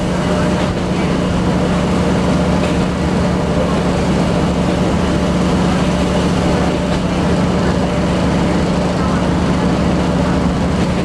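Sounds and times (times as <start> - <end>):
diesel train engine drone: 0.0 - 11.0
wheels rumbling on rails: 0.0 - 11.0.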